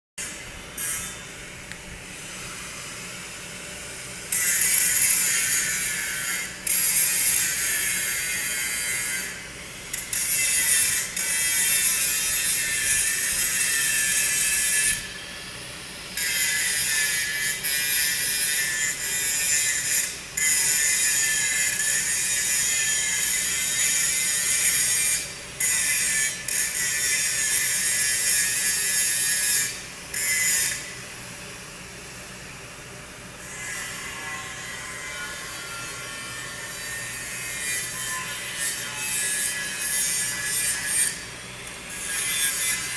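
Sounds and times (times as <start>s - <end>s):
angle grinder grinding steel pipe: 4.3s - 15.2s, 16.1s - 30.9s, 33.4s - 42.9s.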